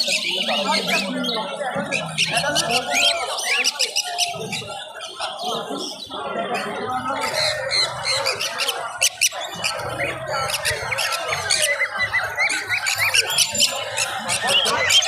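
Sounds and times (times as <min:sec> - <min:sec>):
caged birds chirping and squawking: 0:00.0 - 0:15.0
murmur of people talking: 0:00.0 - 0:15.0.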